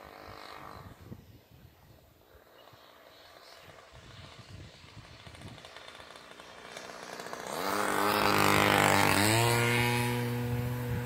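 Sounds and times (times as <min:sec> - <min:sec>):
model airplane engine flying by: 0:00.0 - 0:11.0.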